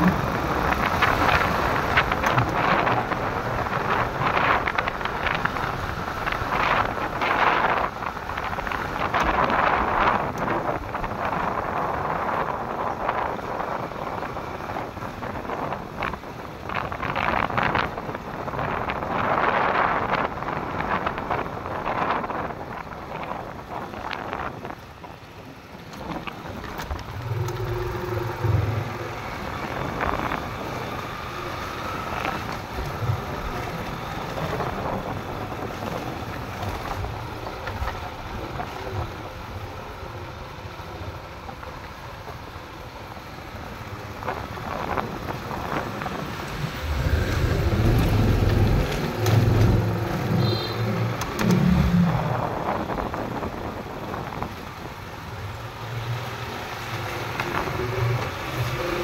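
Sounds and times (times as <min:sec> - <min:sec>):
motorcycles passing: 0:00.0 - 0:42.2, 0:42.9 - 0:59.0
cars passing: 0:00.0 - 0:59.0.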